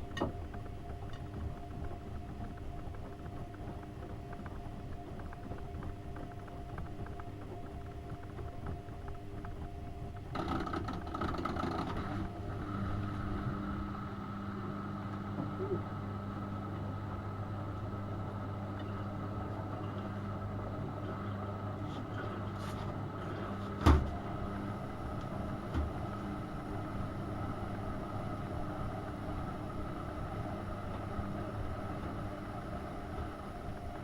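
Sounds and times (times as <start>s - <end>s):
washing machine electrical hum: 0.0s - 34.0s.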